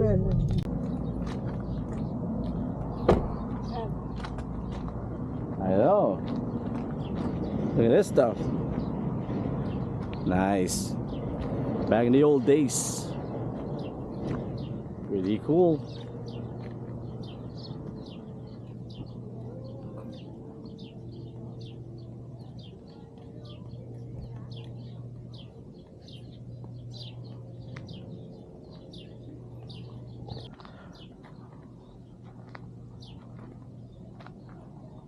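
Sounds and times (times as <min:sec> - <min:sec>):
steady low hum: 0:00.0 - 0:35.0
small birds chirping: 0:00.6 - 0:35.0.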